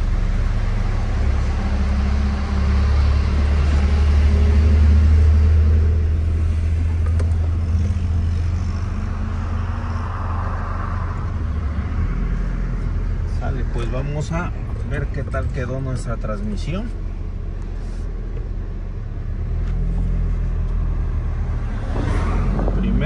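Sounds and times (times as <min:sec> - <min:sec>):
pickup engine humming: 0:00.0 - 0:21.8.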